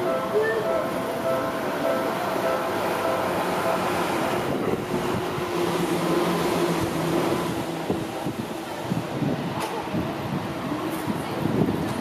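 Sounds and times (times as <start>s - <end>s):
electric train passing: 0.0s - 11.9s.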